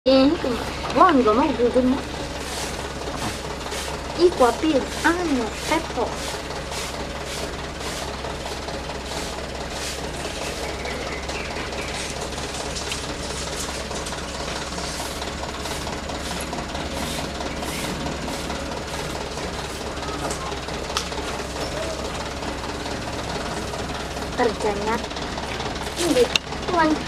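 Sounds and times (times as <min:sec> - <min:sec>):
machine engine running: 0:00.1 - 0:27.0
regular mechanical clatter: 0:00.1 - 0:27.0.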